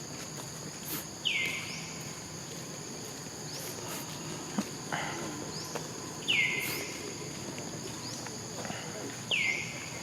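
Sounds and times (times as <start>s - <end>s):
crickets droning: 0.0s - 10.0s.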